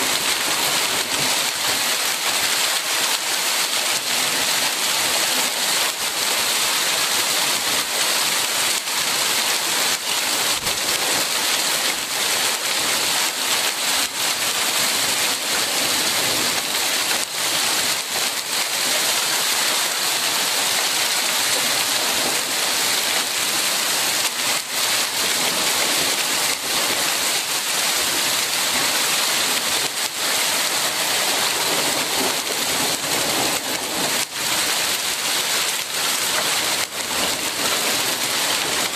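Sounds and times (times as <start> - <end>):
heavy rain on wooden deck: 0.0 - 38.9
hailstones ticking: 0.1 - 38.9.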